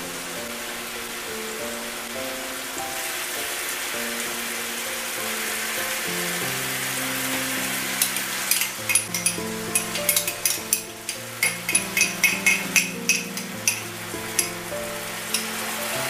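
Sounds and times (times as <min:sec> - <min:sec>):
garlic sizzling in oil: 0:00.0 - 0:16.0
soft background music: 0:00.0 - 0:16.0.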